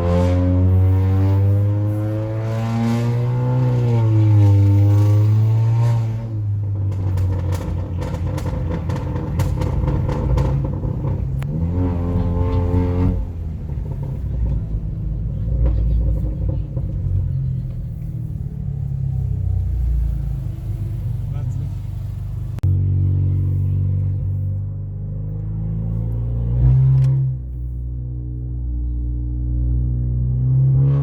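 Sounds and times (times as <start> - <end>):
car engine idling with revving: 0.0 - 31.0.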